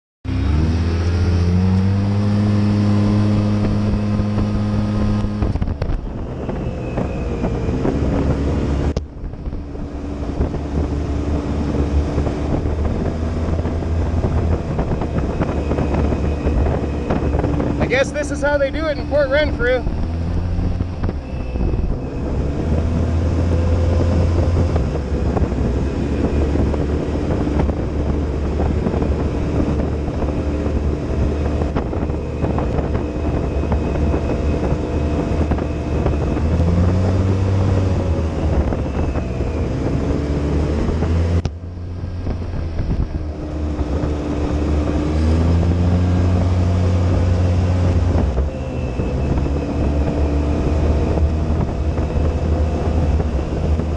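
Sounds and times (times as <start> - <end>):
utility vehicle engine revving: 0.2 - 53.9
wind on microphone: 0.3 - 53.9.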